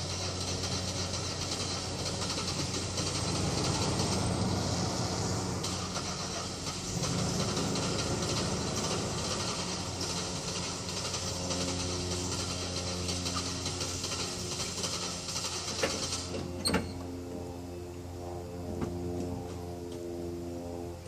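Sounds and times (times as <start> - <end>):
car engine running: 0.0 - 17.7.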